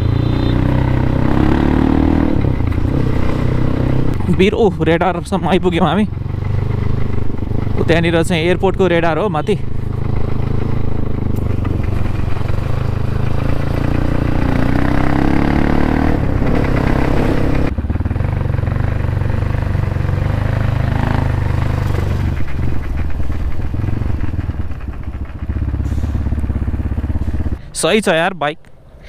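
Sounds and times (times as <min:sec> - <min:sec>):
dirt bike engine accelerating: 0:00.0 - 0:27.6.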